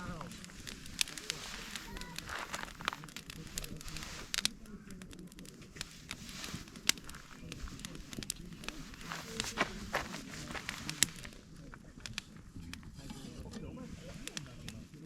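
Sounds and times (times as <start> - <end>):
campfire crackling: 0.0 - 15.0
sharp pops of burning wood: 0.0 - 15.0.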